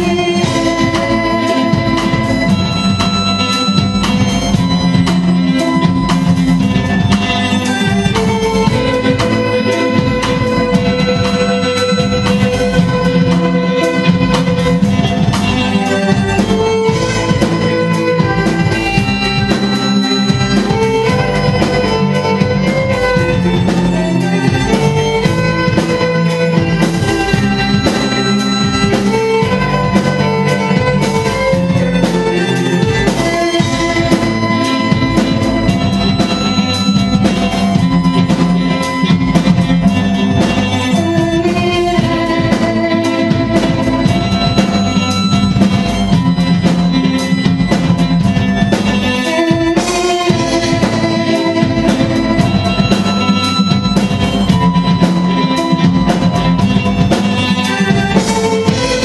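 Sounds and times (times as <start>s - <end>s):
bowed strings: 0.0s - 59.0s
drum kit beat: 0.0s - 59.0s.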